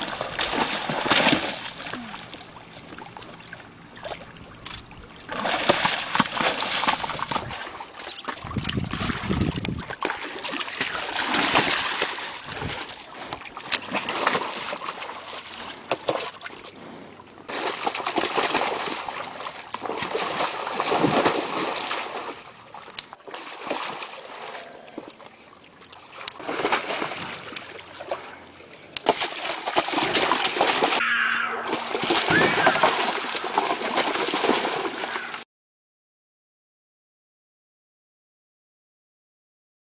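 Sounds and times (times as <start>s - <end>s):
animal splashing water in a tub: 0.0s - 16.7s, 17.5s - 31.0s, 31.6s - 35.4s.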